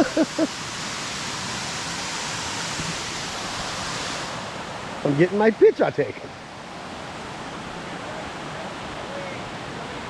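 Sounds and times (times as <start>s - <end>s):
rushing water from creek and waterfalls: 0.0s - 10.0s.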